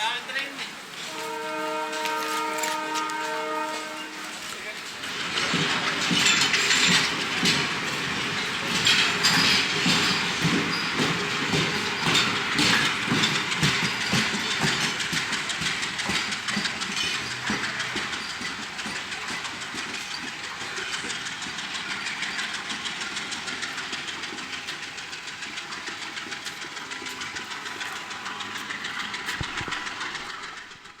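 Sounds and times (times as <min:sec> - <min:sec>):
train wheels clattering on rails: 0:00.0 - 0:31.0.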